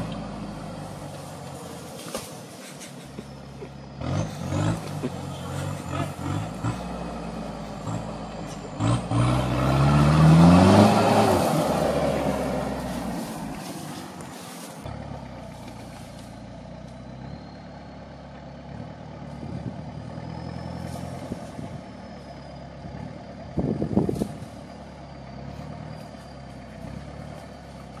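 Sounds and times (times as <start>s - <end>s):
off-road vehicle engine running: 0.0s - 28.0s.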